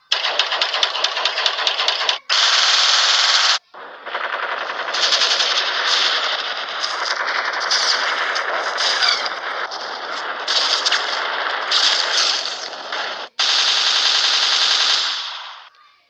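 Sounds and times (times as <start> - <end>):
automatic gunfire: 0.0 - 15.7.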